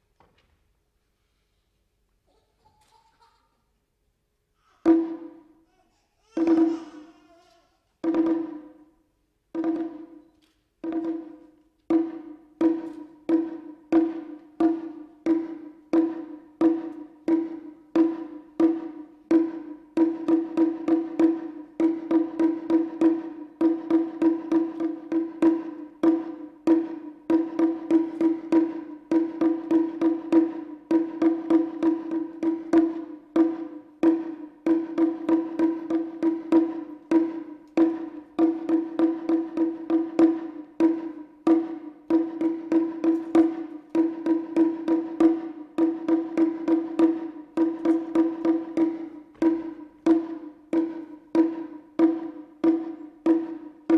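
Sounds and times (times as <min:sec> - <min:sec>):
taiko drum strikes: 0:04.9 - 0:05.4, 0:06.4 - 0:07.2, 0:08.0 - 0:08.8, 0:09.6 - 0:10.2, 0:10.8 - 0:53.9.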